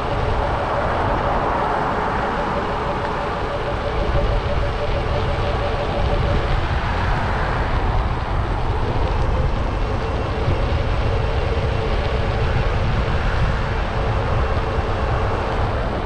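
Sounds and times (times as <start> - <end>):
street traffic noise: 0.0 - 16.0
wind buffeting microphone: 0.0 - 16.0.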